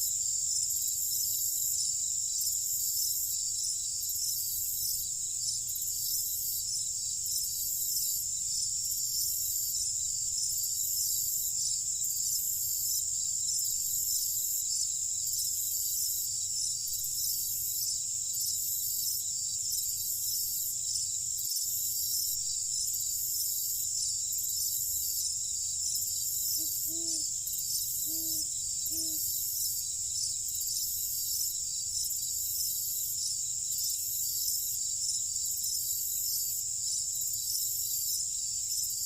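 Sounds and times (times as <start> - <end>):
crickets trilling: 0.0 - 39.0
high pulsing insect chirping: 0.0 - 39.0.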